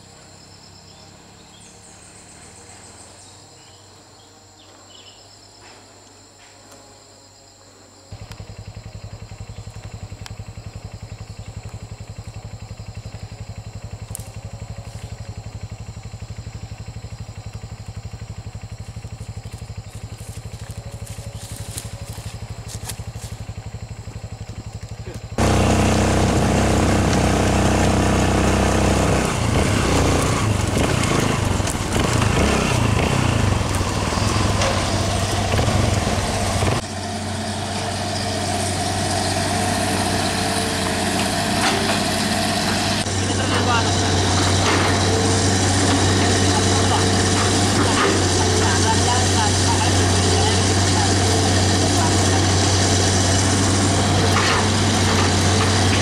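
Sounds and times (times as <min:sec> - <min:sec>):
motorcycle on dirt track: 0:00.0 - 0:03.9, 0:08.1 - 0:56.0
pulsing low engine hum: 0:07.8 - 0:56.0
excavator diesel engine: 0:08.1 - 0:56.0.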